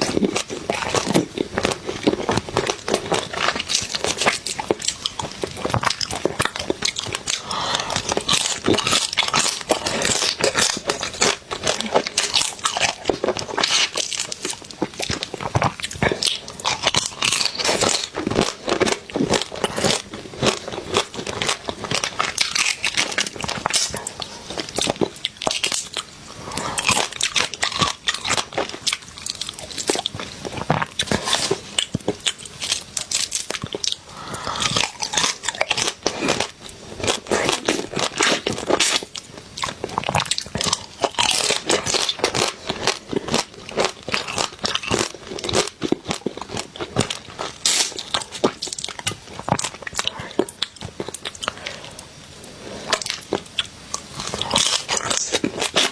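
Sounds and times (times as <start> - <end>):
crab shells cracking while chewing: 0.0 - 55.9.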